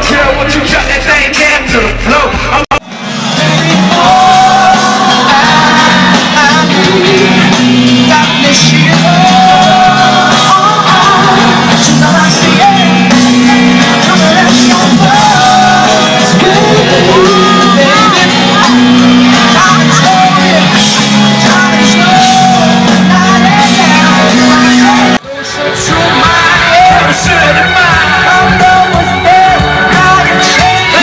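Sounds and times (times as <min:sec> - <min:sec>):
crowd singing and shouting: 0:00.0 - 0:31.0
loud live pop music: 0:00.0 - 0:31.0.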